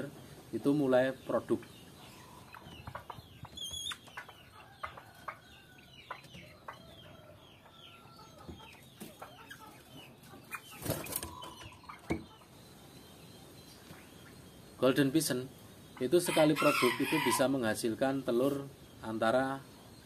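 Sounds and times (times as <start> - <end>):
loud poultry calls: 0.0 - 19.0
poultry chirping: 0.0 - 20.0
poultry clucking: 0.0 - 20.0.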